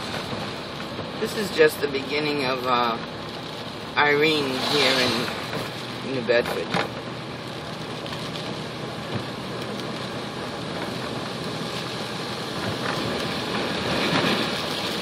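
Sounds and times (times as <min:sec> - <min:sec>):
rain: 0:00.0 - 0:15.0
storm wind: 0:00.0 - 0:15.0.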